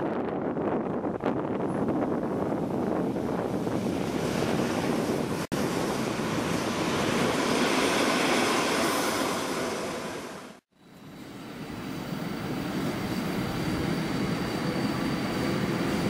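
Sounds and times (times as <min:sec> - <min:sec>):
train passing at speed: 0:00.1 - 0:16.0.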